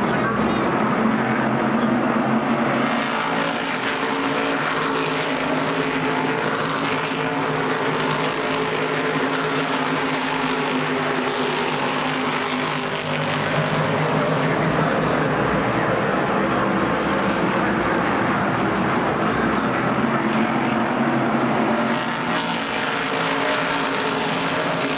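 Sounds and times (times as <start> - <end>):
race car engines: 0.0 - 24.9.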